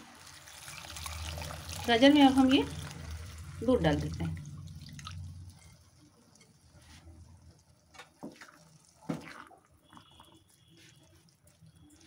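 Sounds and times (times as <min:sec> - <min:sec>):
liquid sloshing in a pan: 0:00.0 - 0:12.0.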